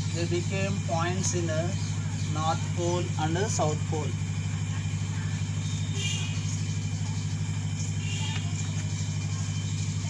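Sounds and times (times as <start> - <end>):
pulsing mechanical drone: 0.0 - 10.0.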